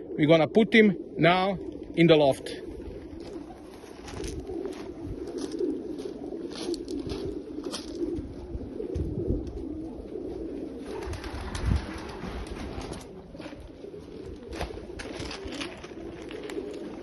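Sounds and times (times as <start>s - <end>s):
pigeons cooing: 0.0s - 17.0s
rustling: 2.8s - 17.0s.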